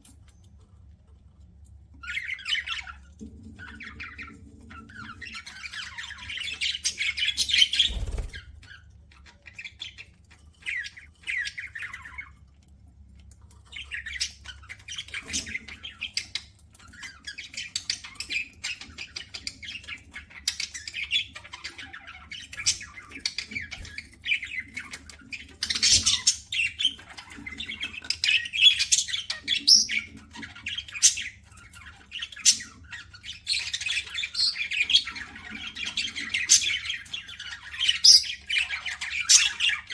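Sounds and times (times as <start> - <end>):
budgerigars chirping and squawking: 2.0 - 12.4, 13.6 - 39.9.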